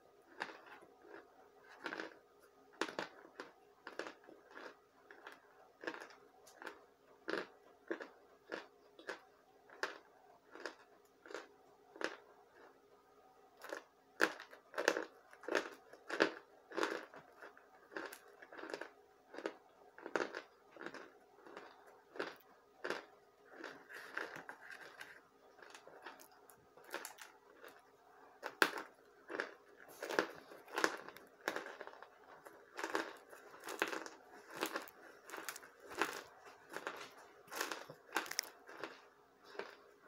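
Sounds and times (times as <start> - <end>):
squeaky dry chewing crunches: 0.3 - 2.2, 2.8 - 12.8, 13.6 - 40.0.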